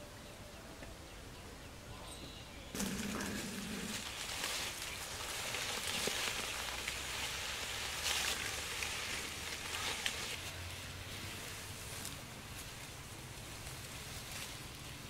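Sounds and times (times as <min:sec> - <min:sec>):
dry grass and leaves crackling: 0:02.7 - 0:15.0.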